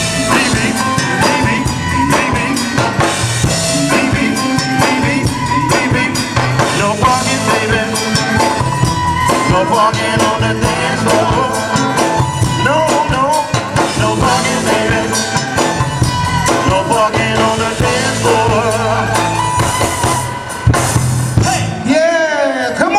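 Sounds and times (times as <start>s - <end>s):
wavering lead melody: 0.0s - 21.4s
drum kit beat: 0.0s - 21.9s
live soul band playing: 0.0s - 22.9s.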